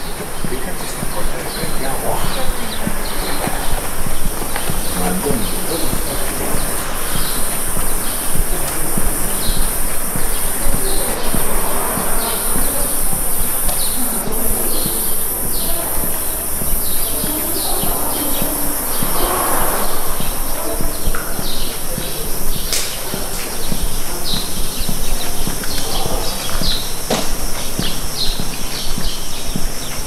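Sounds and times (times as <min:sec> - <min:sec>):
cicadas shrilling: 0:00.0 - 0:30.0
small birds chirping: 0:00.0 - 0:30.0.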